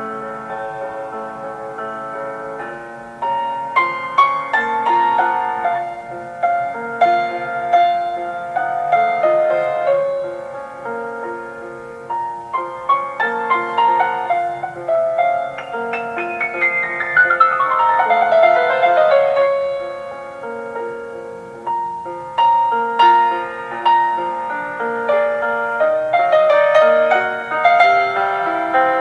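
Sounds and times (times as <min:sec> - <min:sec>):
gentle solo piano: 0:00.0 - 0:29.0.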